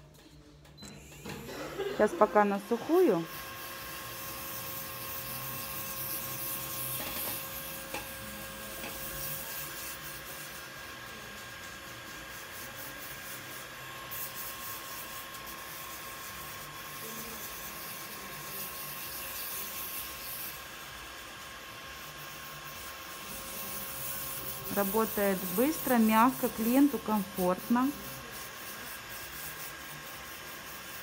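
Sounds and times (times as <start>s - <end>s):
pedicure drill whine: 0.8s - 31.0s.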